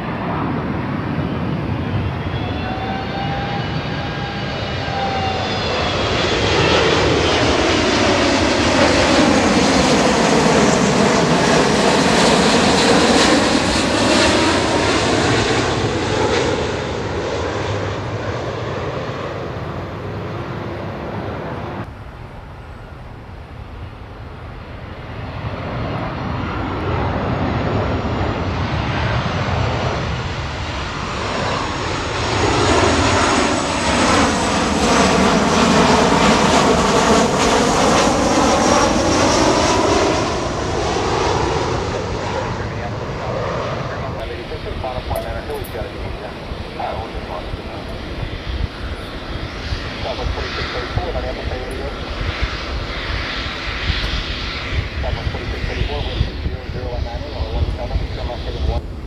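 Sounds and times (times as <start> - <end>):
aircraft engine noise: 0.0 - 59.0
jet airliner passing: 0.0 - 59.0.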